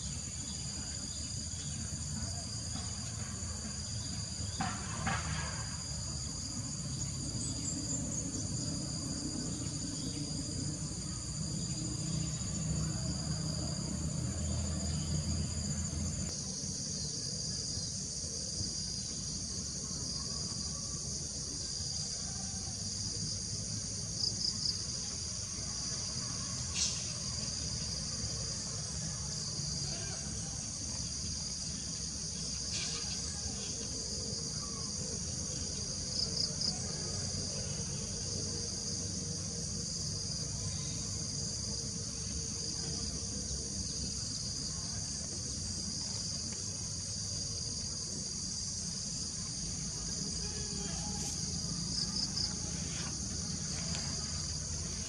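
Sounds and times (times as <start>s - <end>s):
insects chorus buzzing: 0.0s - 55.0s.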